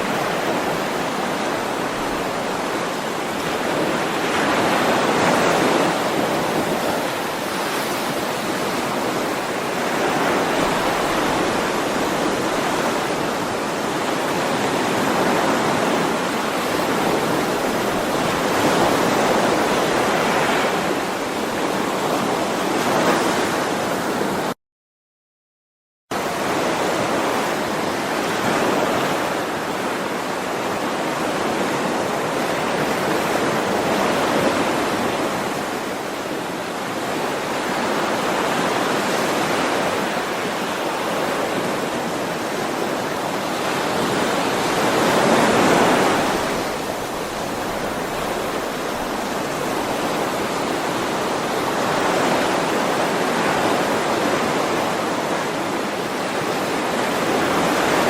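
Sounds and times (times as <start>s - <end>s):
ocean waves washing onto shore: 0.0s - 24.6s, 26.1s - 58.0s.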